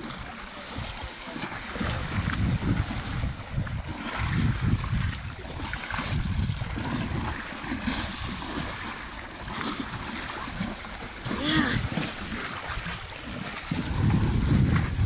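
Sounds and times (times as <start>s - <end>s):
horses splashing in water: 0.0s - 15.0s
wind buffeting microphone: 0.0s - 15.0s.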